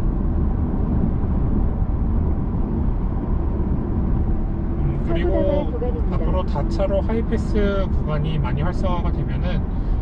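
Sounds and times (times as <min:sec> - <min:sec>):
wind hiss inside car cabin: 0:00.0 - 0:10.0.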